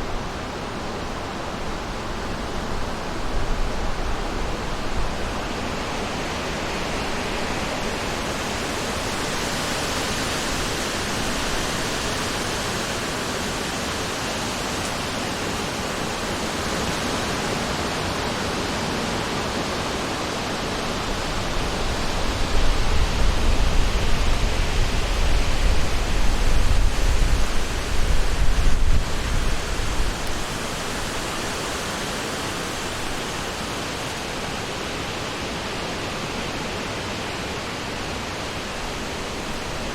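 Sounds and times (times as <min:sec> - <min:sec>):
wind blowing through forest: 0:00.0 - 0:39.9.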